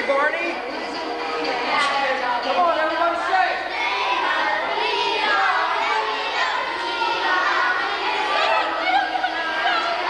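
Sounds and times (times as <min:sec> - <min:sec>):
children singing and calling out: 0:00.8 - 0:10.0.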